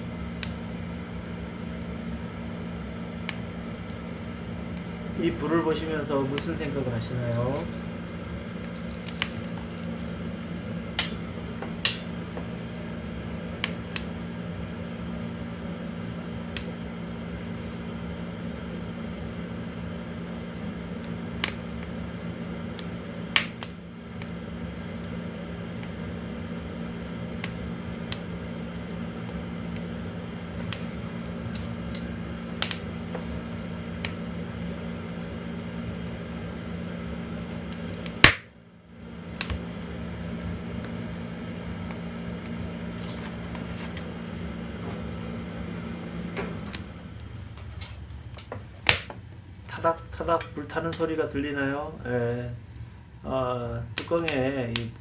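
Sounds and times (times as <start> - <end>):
steady low hum: 0.0 - 55.0
wood fire crackling and popping: 0.0 - 55.0.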